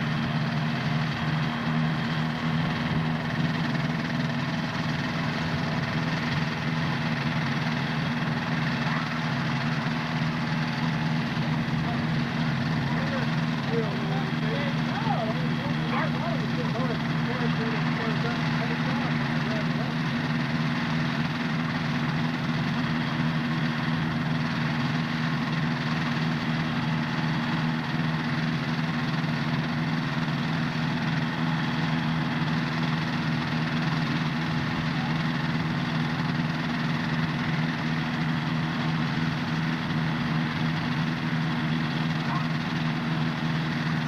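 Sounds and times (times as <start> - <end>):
helicopter engines running: 0.0 - 44.0.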